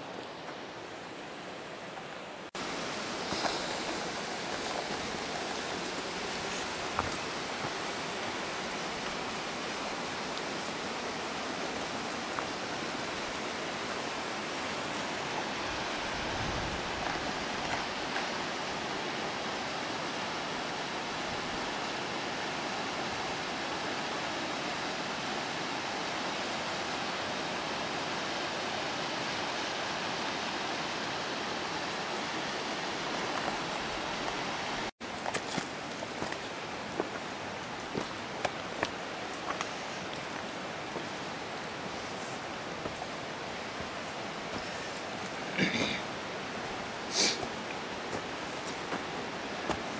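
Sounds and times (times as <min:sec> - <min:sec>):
stream and waterfall rushing: 0:00.0 - 0:49.9.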